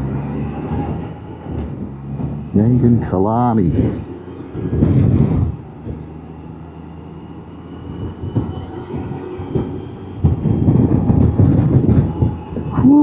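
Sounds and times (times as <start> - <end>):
engine running: 0.0 - 13.0
wind and road noise: 0.0 - 13.0.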